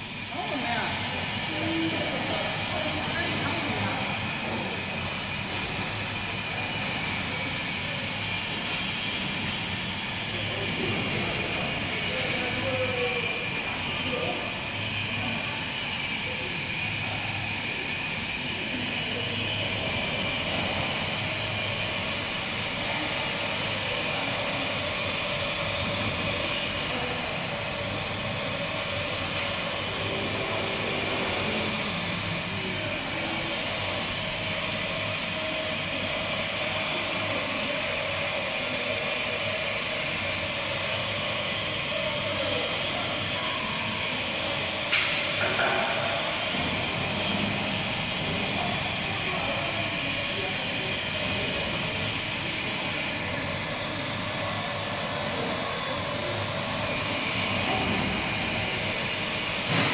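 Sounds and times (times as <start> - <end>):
lathe humming and whining: 0.0 - 59.9.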